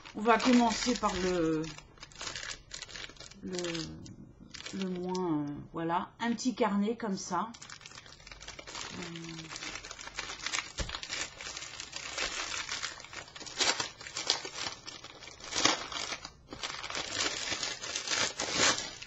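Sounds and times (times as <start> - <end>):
plastic packaging crinkling: 0.0 - 5.3, 7.5 - 19.0.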